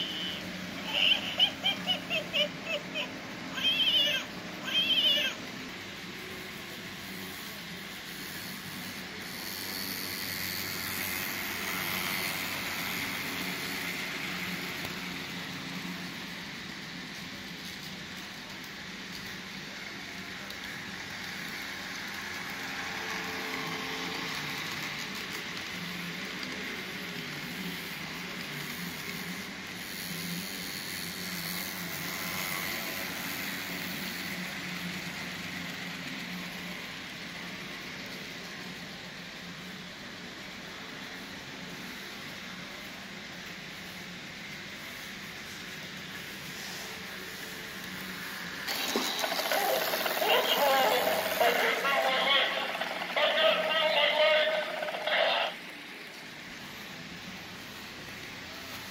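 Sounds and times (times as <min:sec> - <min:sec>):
model train running on track: 0:00.0 - 0:58.9.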